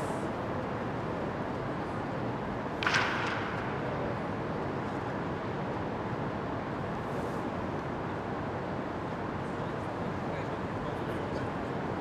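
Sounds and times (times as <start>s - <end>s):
indoor hall ambience: 0.0s - 12.0s.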